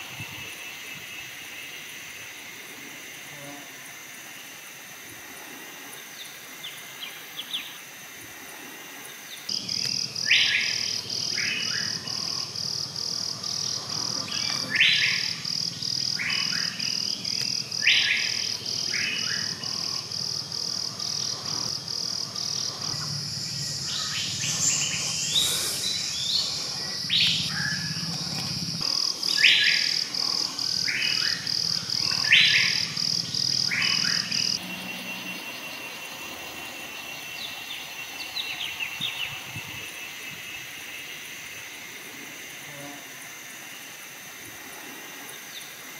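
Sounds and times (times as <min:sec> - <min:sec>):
insect trill: 0:00.0 - 0:45.9.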